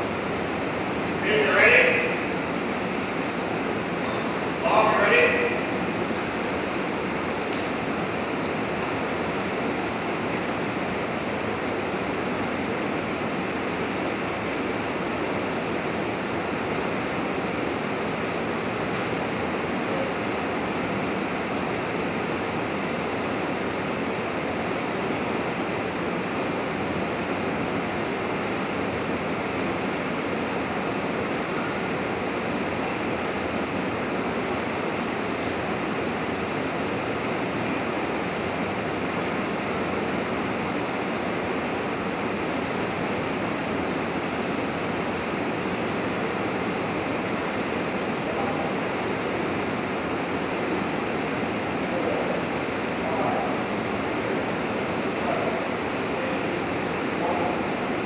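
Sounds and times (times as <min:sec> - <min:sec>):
exhaust ventilation rushing: 0:00.0 - 0:58.0.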